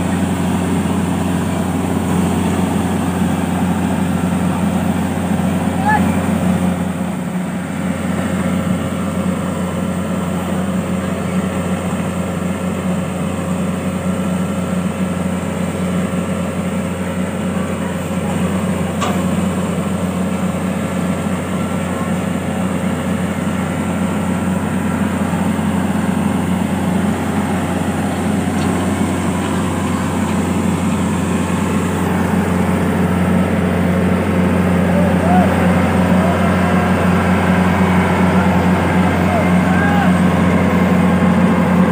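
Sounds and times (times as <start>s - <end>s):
combine harvester diesel engine drone: 0.0s - 41.9s.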